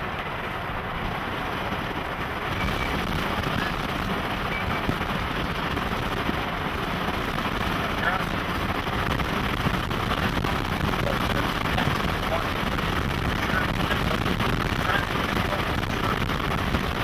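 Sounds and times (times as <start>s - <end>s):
road and wind noise in vehicle: 0.0s - 17.0s.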